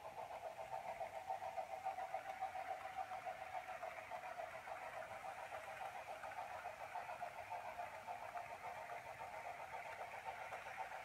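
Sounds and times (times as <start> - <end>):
model train motor whining: 0.0 - 11.0.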